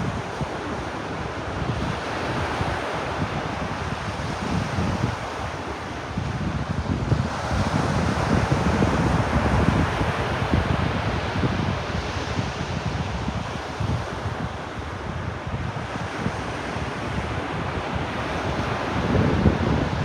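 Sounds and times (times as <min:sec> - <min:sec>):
ocean waves on a beach: 0:00.0 - 0:20.0
wind buffeting microphone: 0:00.0 - 0:20.0.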